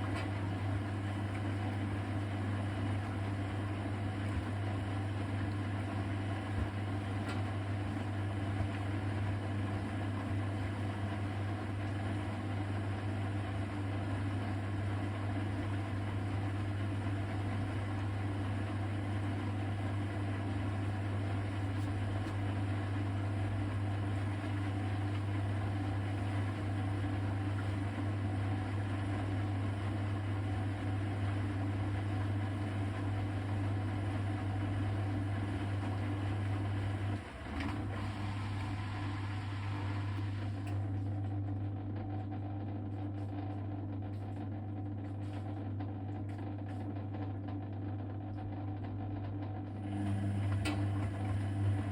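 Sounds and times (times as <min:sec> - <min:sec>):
washing machine humming: 0:00.0 - 0:51.9.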